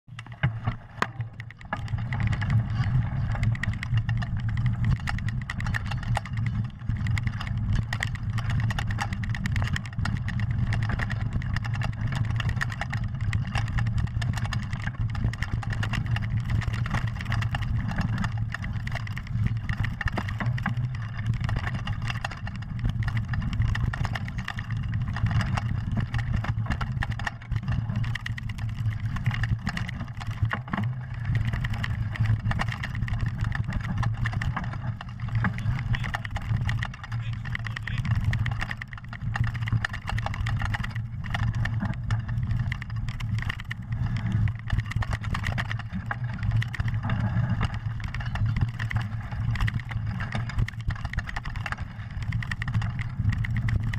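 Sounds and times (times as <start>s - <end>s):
bike rattling and knocking: 0.1s - 53.9s
tyres rolling over dirt: 0.1s - 53.9s
wind rumbling over microphone: 0.4s - 53.9s.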